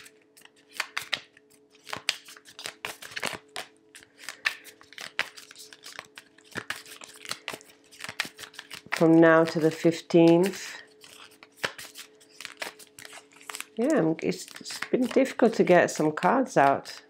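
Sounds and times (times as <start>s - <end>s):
cards being shuffled: 0.0s - 17.0s.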